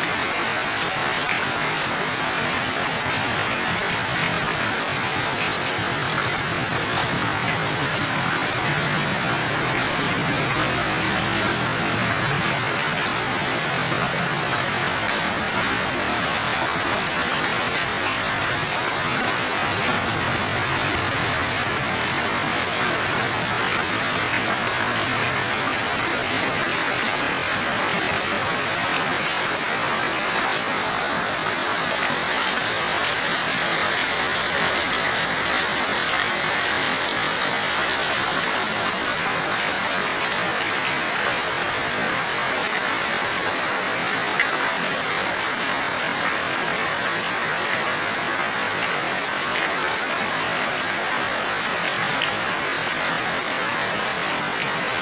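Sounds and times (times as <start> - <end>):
water pouring off roof: 0.0 - 55.0
heavy rain hissing: 0.1 - 55.0.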